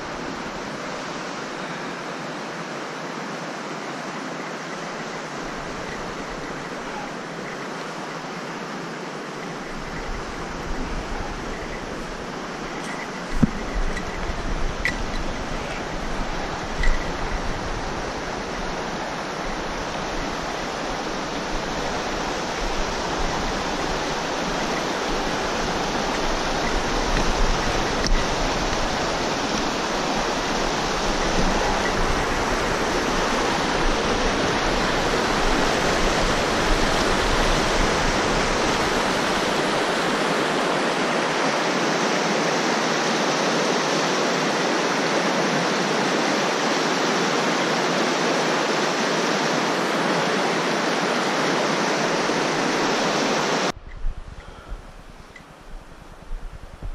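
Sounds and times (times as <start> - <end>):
stream running water: 0.0 - 56.9.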